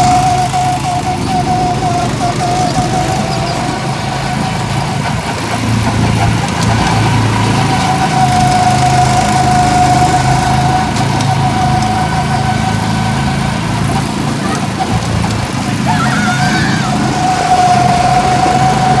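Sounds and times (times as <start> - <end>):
go-kart engines running: 0.0 - 19.0
high engine whine: 0.0 - 19.0.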